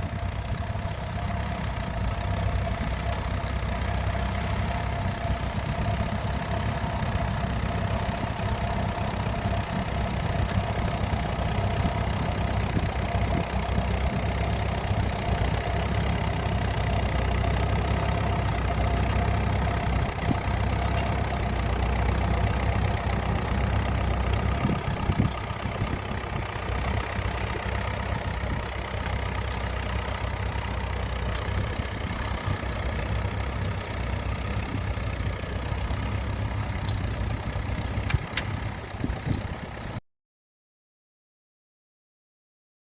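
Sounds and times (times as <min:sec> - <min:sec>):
tractor engine rumbling: 0:00.0 - 0:40.0.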